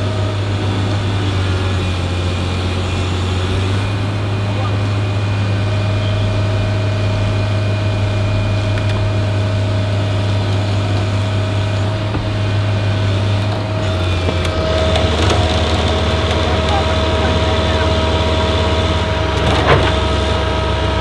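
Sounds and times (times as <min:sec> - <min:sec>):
heavy diesel engines droning: 0:00.0 - 0:21.0.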